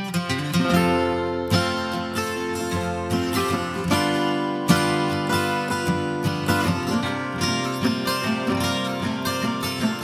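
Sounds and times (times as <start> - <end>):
plucked acoustic guitar tune: 0.0 - 10.0.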